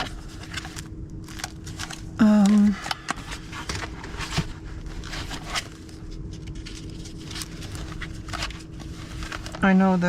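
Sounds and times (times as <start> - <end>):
faint steady hum: 0.0 - 10.0
paper pages rustling: 0.0 - 10.0.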